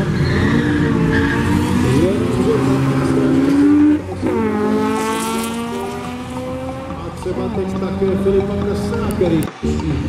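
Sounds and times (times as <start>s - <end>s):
car engines revving hard: 0.0s - 10.0s.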